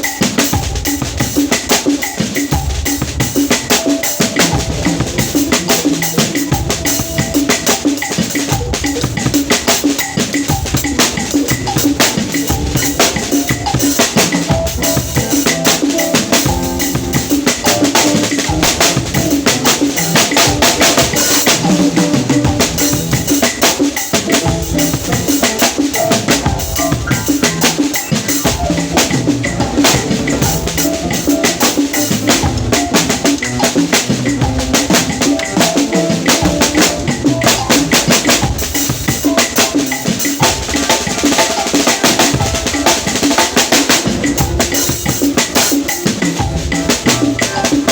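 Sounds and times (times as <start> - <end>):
drum kit playing: 0.0 - 47.9.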